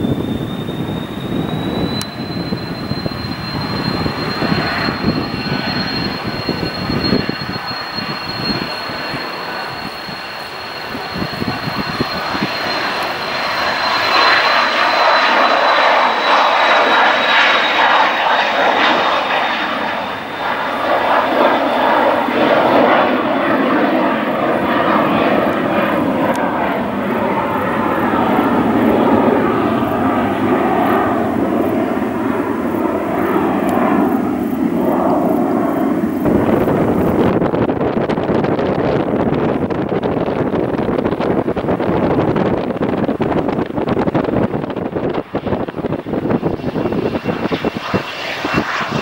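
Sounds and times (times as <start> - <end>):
high turbofan whine: 0.0 - 49.0
jet taking off: 0.0 - 49.0.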